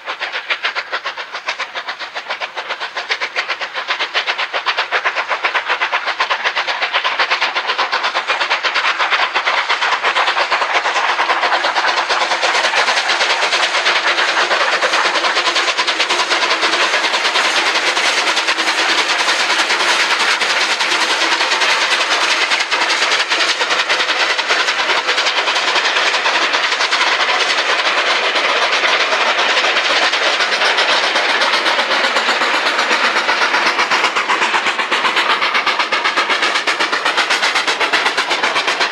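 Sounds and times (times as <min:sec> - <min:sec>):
steam locomotive exhaust beats: 0:00.0 - 0:38.9.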